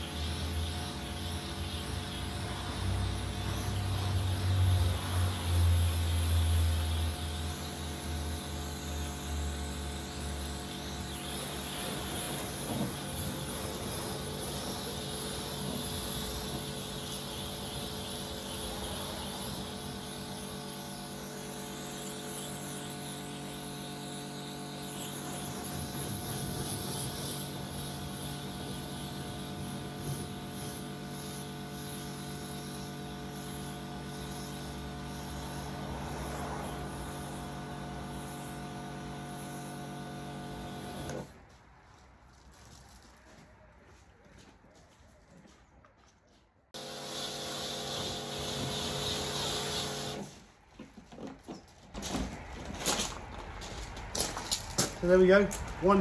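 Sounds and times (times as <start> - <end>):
pressure washer motor humming: 0.0 - 41.3, 46.8 - 50.5
water jet hissing: 0.0 - 41.3, 46.8 - 50.5.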